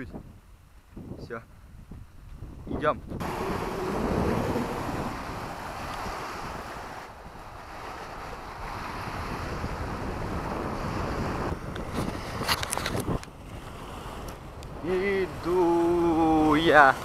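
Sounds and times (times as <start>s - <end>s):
wind on microphone: 0.0s - 17.0s
waves washing onto gravel shore: 3.2s - 17.0s.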